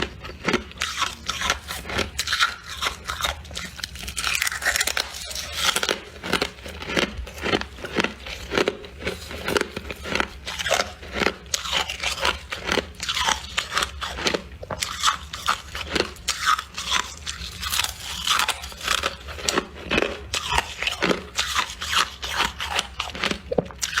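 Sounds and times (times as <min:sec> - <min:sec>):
crunching frost bites: 0:00.5 - 0:24.0.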